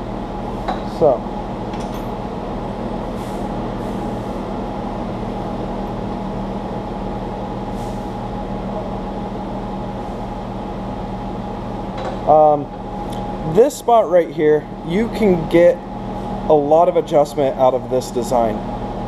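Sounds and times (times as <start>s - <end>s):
machine humming with whine: 0.0s - 19.0s.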